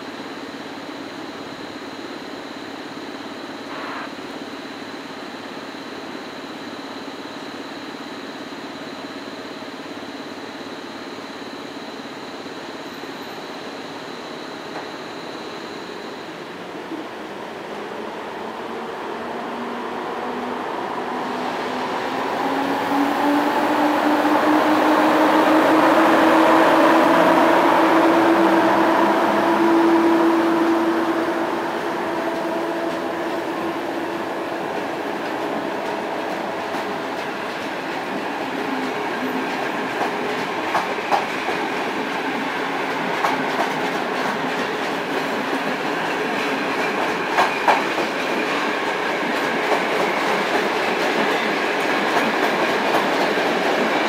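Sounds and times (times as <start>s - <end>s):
electric locomotive motor tone: 0.0s - 54.0s
train wheels on rails: 5.4s - 54.0s.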